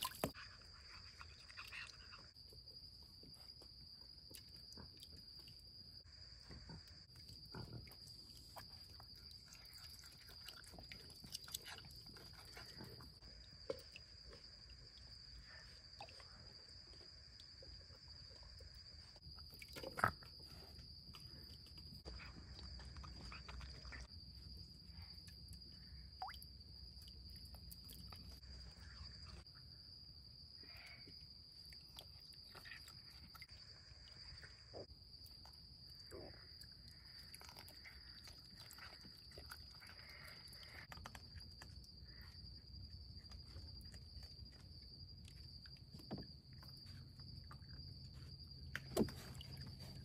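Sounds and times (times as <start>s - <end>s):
night insects trilling: 0.0s - 50.0s.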